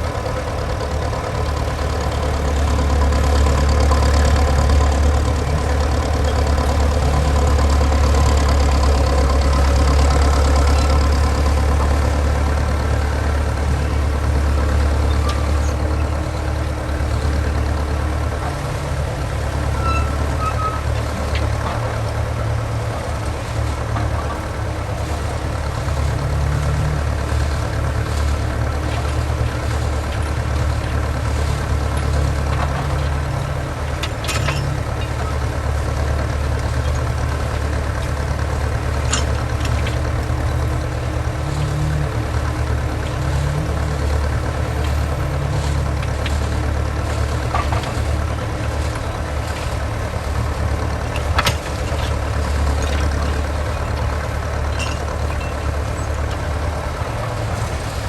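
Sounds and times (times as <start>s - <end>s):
engine droning: 0.0s - 58.0s.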